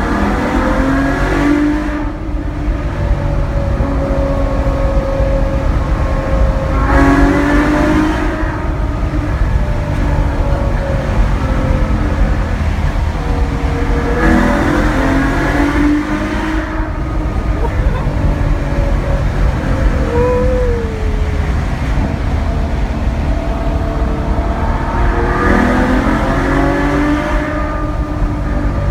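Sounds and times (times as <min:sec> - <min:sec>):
car engine accelerating: 0:00.0 - 0:28.9
low traffic rumble: 0:00.0 - 0:28.9.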